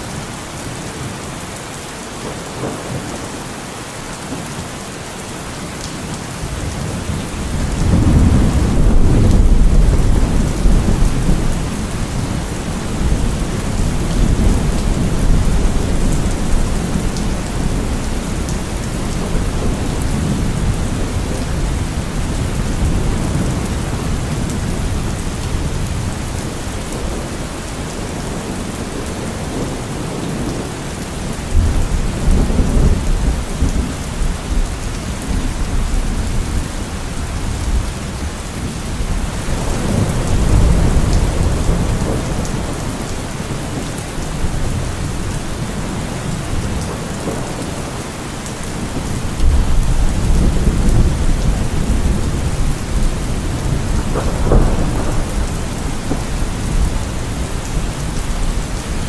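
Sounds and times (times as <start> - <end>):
heavy rain: 0.0 - 59.0
thunder rumbling: 6.5 - 59.0.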